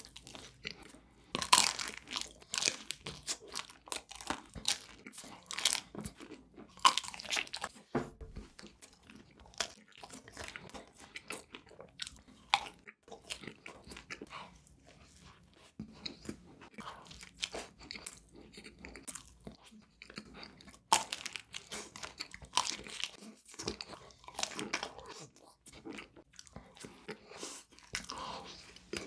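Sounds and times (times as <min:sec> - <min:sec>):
crunchy chewing: 0:00.0 - 0:07.8, 0:08.4 - 0:29.0.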